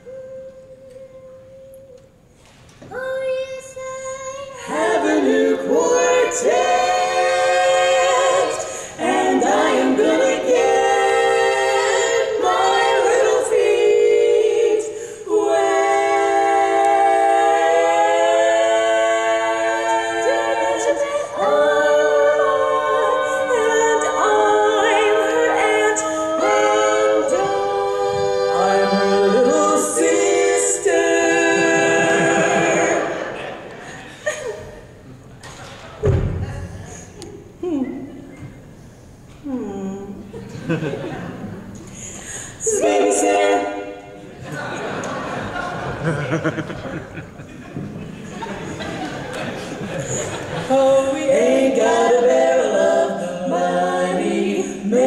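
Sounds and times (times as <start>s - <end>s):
women singing a cappella harmony: 0.0s - 34.9s, 36.8s - 41.1s, 41.8s - 46.3s, 48.3s - 55.0s.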